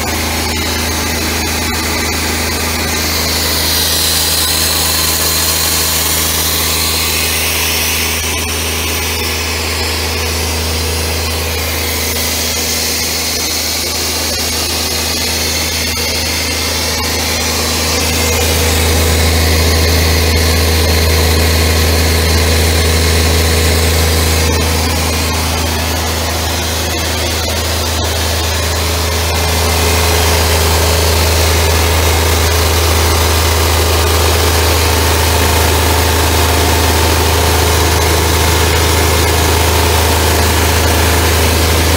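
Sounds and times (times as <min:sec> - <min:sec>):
air compressor diesel engine running: 0:00.0 - 0:41.9.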